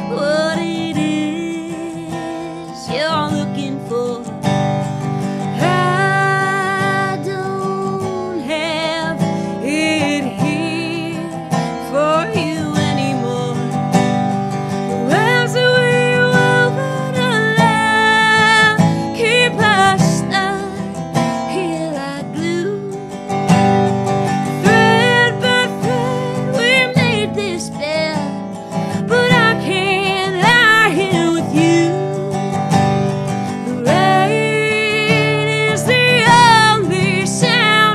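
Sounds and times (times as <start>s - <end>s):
woman singing with vibrato: 0.0s - 4.4s, 5.4s - 13.8s, 14.8s - 23.2s, 24.4s - 32.6s, 33.5s - 37.9s
resonator guitar strumming: 0.0s - 37.9s.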